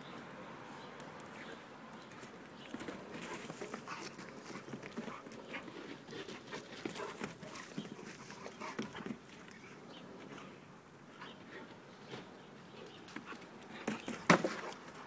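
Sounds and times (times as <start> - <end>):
dogs scuffling on dirt: 1.4 - 10.6, 11.2 - 15.0.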